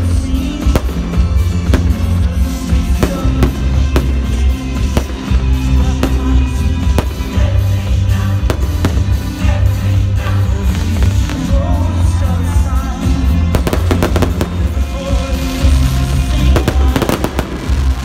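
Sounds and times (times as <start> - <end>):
loud music with heavy bass: 0.0 - 18.0
fireworks bursting: 0.6 - 11.6, 13.4 - 18.0.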